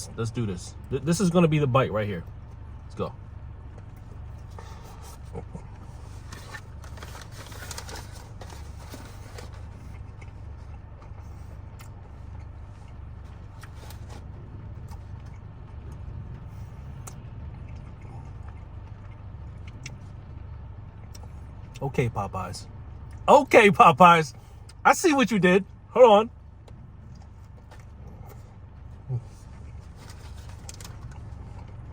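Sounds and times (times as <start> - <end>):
low car cabin rumble: 0.0 - 31.9
crunching and chewing food: 2.2 - 21.9, 22.7 - 23.3, 25.7 - 31.9.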